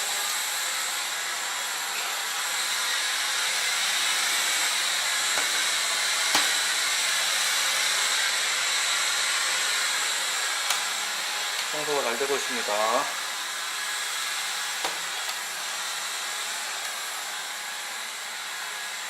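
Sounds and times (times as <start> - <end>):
vacuum cleaner whine: 0.0 - 19.0.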